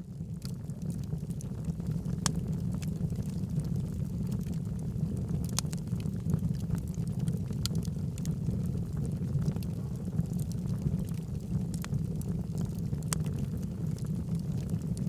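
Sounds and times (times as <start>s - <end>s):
fire flames rumbling: 0.0s - 15.0s
wood crackling and popping: 0.0s - 15.0s.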